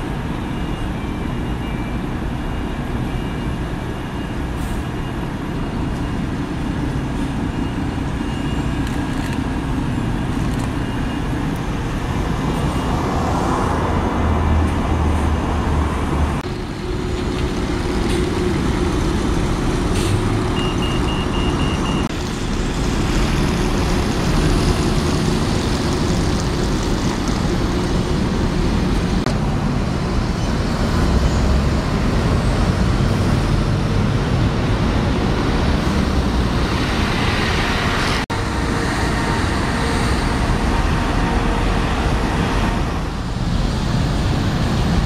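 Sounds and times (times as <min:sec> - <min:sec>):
buses pulling past: 0:00.0 - 0:45.0
road traffic noise: 0:00.0 - 0:45.0.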